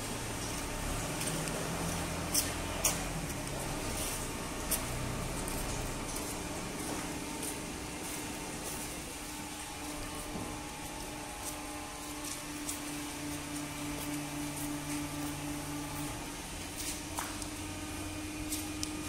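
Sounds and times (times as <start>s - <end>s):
baler and conveyor humming: 0.0s - 19.0s
low mechanical tone: 0.0s - 19.0s.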